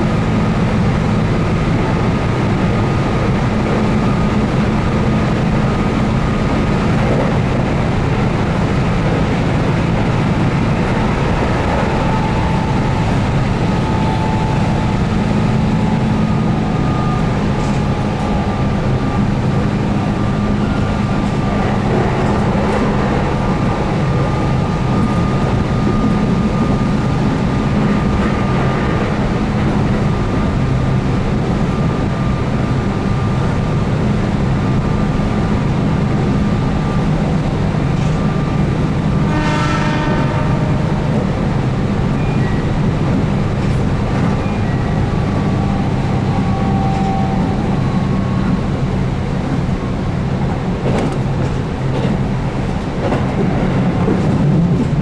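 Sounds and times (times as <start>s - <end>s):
electric train motor hum: 0.0s - 55.0s
wheel and rail noise: 0.0s - 55.0s.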